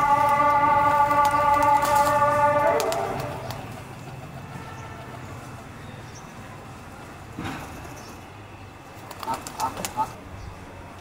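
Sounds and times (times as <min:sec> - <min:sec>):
low engine-like hum: 0:00.0 - 0:09.1.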